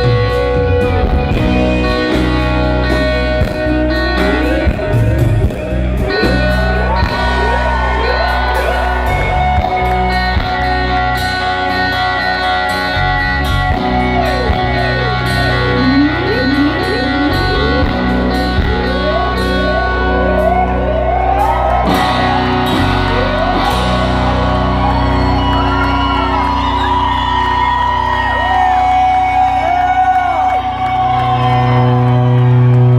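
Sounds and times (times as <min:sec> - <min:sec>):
bass and drums: 0:00.0 - 0:32.9
lead guitar solo: 0:00.0 - 0:32.9.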